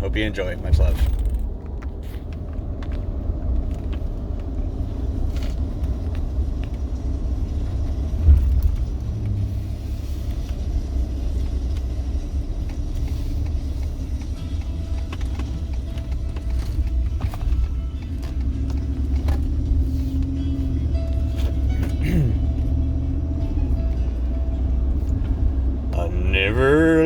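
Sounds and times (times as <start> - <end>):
car cabin road and engine rumble: 0.0 - 27.0.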